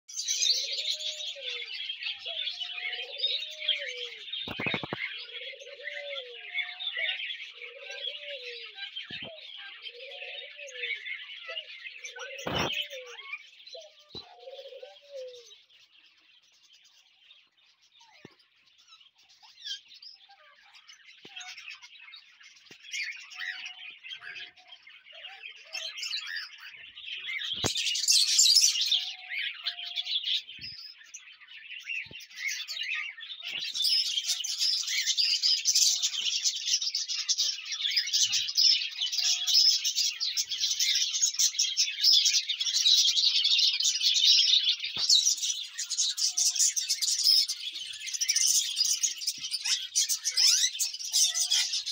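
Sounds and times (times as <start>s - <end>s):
budgerigars chattering and chirping: 0.1s - 51.9s.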